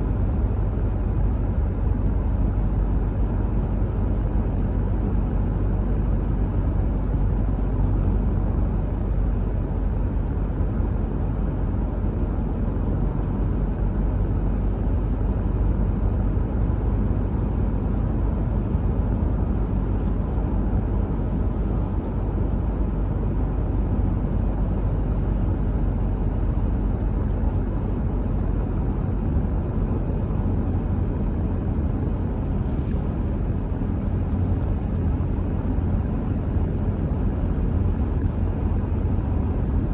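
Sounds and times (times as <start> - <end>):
car engine rumble: 0.0 - 39.9
tyre noise on road: 0.1 - 39.9.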